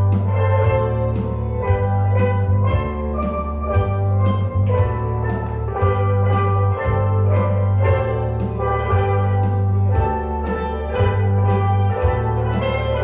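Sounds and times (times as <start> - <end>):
steel pan band playing: 0.0 - 13.0.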